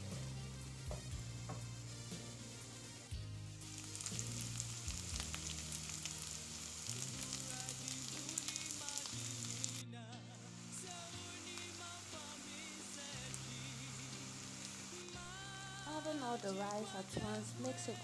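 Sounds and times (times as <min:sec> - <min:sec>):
rice sizzling in hot oil: 0:00.0 - 0:09.8, 0:10.4 - 0:18.0.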